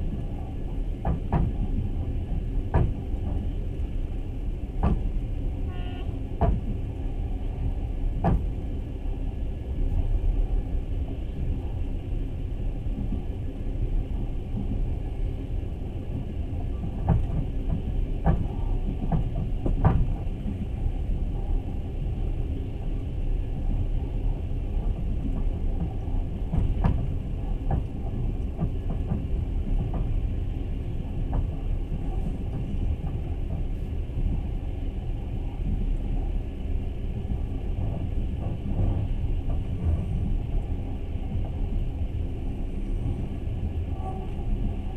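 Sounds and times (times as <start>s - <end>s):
train rumble inside carriage: 0.0s - 44.9s.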